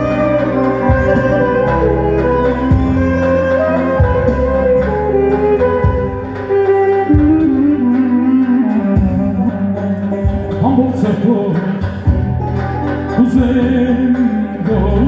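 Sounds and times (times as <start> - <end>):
clarinet melody: 0.0 - 11.0, 12.2 - 15.0
synthesizer keyboard chords: 0.0 - 15.0.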